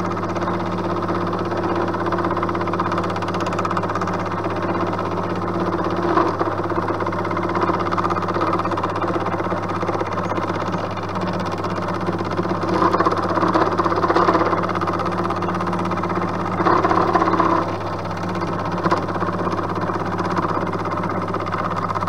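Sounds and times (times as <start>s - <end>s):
milling cutter cutting metal: 0.0s - 22.0s
motor hum: 0.0s - 22.0s.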